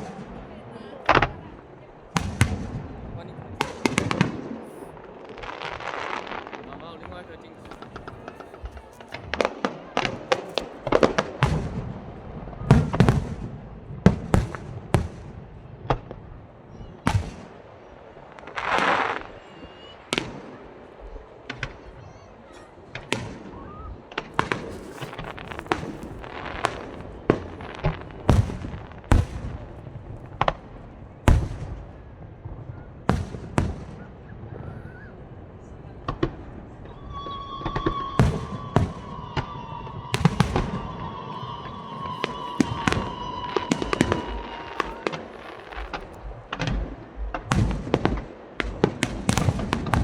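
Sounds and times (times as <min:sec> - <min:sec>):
fireworks bursting with sharp bangs: 0:00.0 - 0:50.0.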